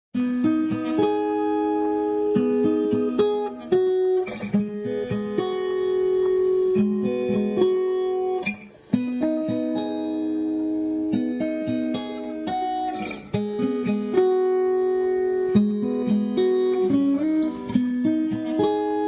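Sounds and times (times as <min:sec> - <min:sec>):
plucked guitar melody: 0:00.2 - 0:19.0.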